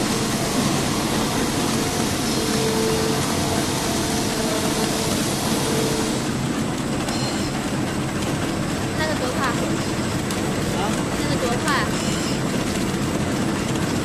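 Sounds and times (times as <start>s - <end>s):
machine clattering: 0.0s - 14.0s.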